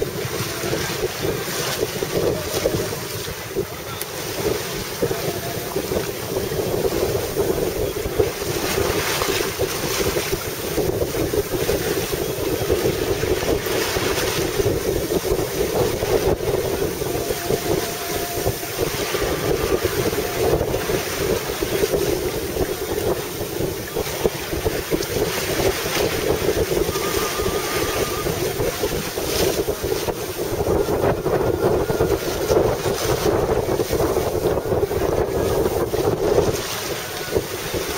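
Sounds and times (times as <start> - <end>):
water washing along hull: 0.0 - 37.9
wind buffeting microphone: 0.0 - 37.9.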